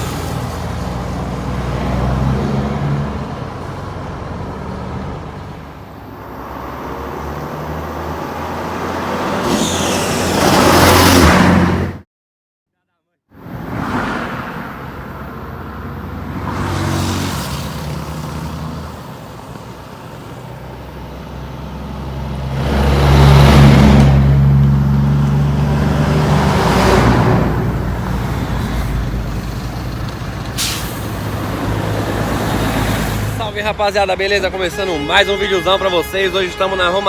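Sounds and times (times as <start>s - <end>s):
hissing rush of passing traffic: 0.0s - 12.0s, 13.4s - 37.0s
trucks passing by: 0.0s - 12.0s, 13.4s - 37.0s.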